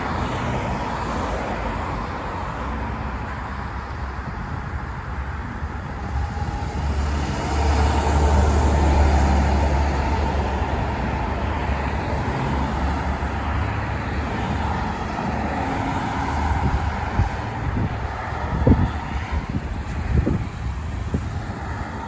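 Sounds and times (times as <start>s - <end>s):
bus passing by: 0.0s - 22.0s
passenger cars passing: 0.0s - 22.0s.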